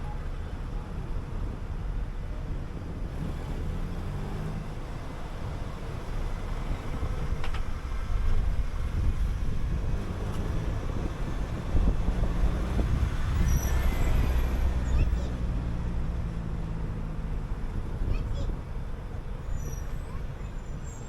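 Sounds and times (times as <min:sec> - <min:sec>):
bus engine rumble: 0:00.0 - 0:21.0
road noise: 0:00.0 - 0:21.0.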